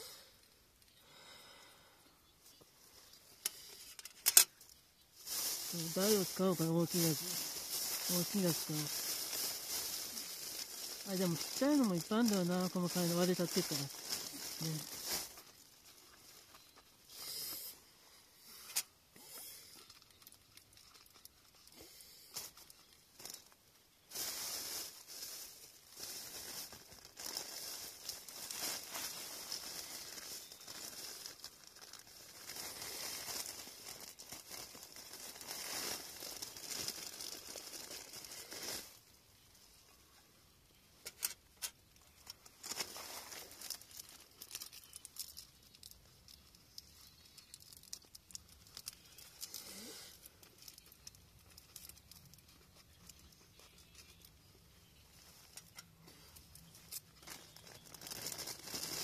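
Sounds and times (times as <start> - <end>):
plastic bags rustling: 2.8 - 17.7, 18.4 - 39.8, 41.0 - 59.0.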